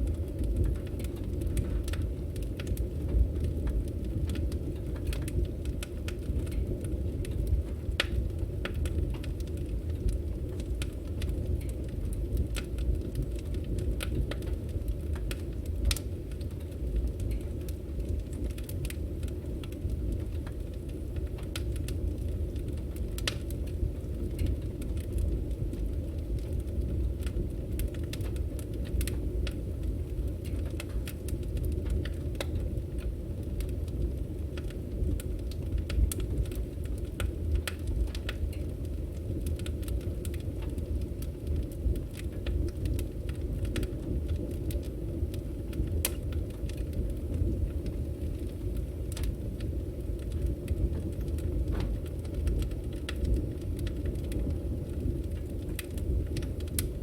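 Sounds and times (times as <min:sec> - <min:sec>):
firewood burning and crackling: 0:00.0 - 0:57.0.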